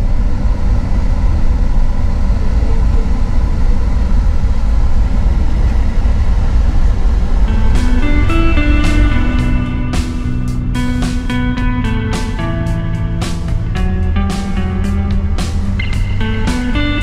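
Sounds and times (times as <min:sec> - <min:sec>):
coach engine and road noise: 0:00.0 - 0:17.0.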